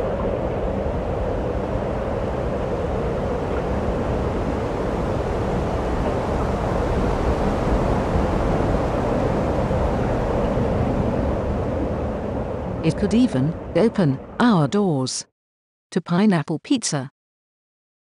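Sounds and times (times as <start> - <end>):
wind blowing: 0.0 - 14.7.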